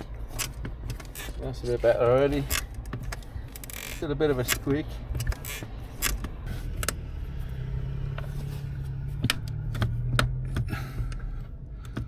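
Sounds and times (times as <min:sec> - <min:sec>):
clutch pedal clicks and creaks: 0:00.0 - 0:12.0.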